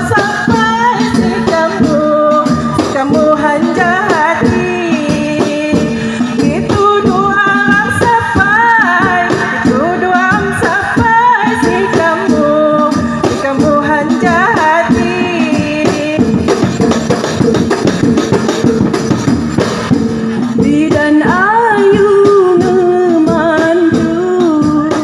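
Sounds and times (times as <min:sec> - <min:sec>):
driving drum beat: 0:00.0 - 0:25.0.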